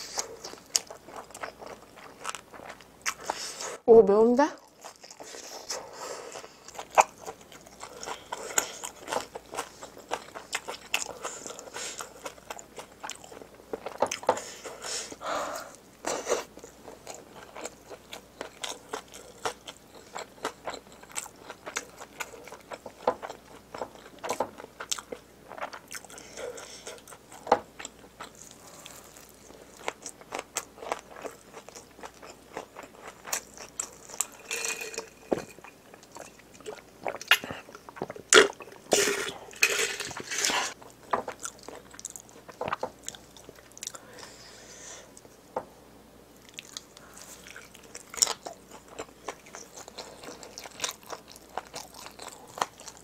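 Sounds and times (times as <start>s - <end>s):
chewing and crunching food: 0.0s - 3.8s, 4.6s - 45.4s, 46.4s - 53.0s.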